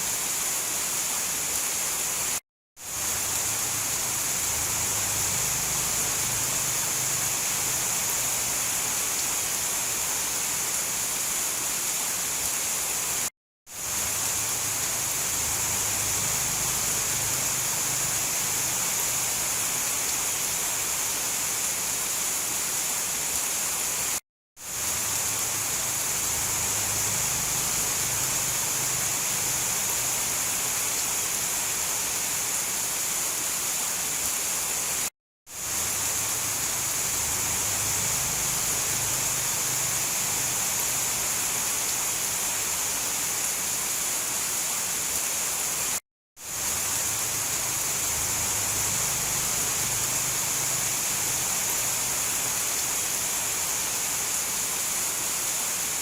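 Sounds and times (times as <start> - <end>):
heavy rain hiss: 0.0 - 56.0.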